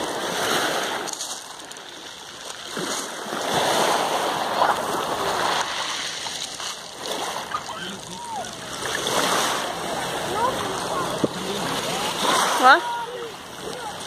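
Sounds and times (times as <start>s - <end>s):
small waves washing over shingle: 0.0s - 14.0s.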